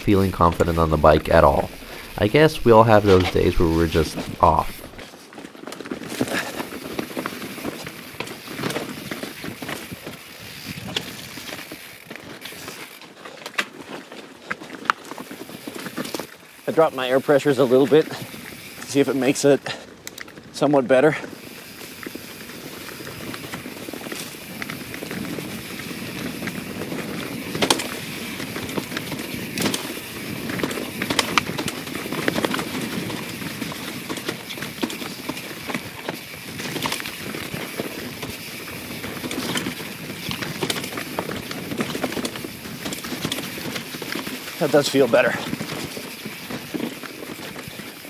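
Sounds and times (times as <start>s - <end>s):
bike knocking on roots and rocks: 0.0s - 48.0s
bike rattle: 0.0s - 48.0s
bike tyre noise: 0.0s - 48.0s.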